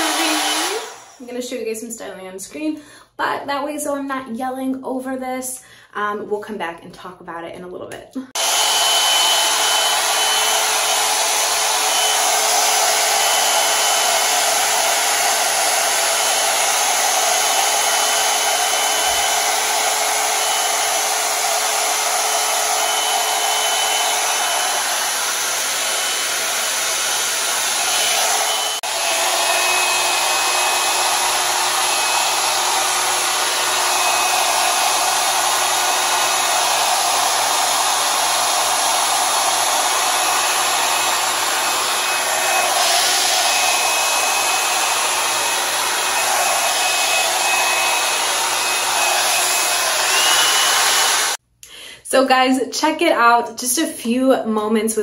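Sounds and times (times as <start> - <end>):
hair-dryer brush blowing air: 0.0 - 1.4, 8.3 - 51.4.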